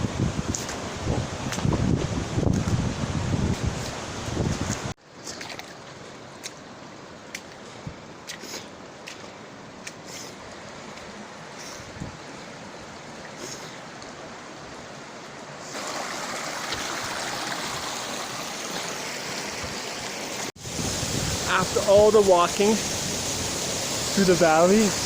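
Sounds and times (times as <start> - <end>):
river and waterfall rushing: 0.0 - 25.0.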